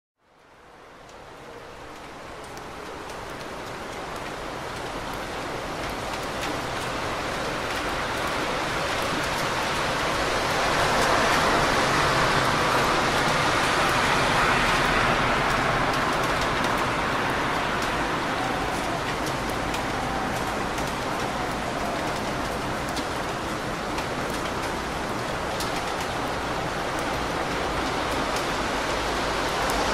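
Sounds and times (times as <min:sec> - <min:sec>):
heavy rain on street: 0:00.2 - 0:29.9
car tyres on wet road: 0:00.5 - 0:29.9.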